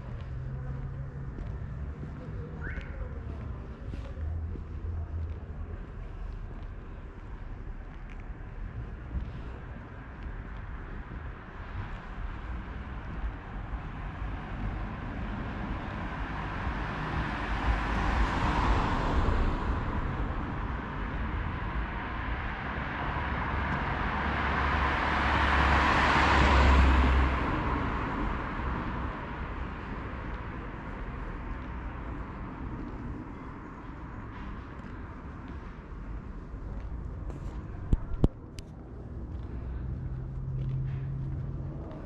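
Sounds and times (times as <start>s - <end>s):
cars passing: 0.0s - 42.0s.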